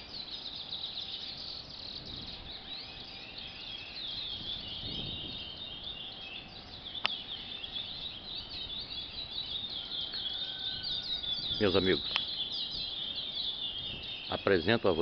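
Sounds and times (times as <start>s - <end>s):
finches chirping and trilling: 0.0s - 15.0s.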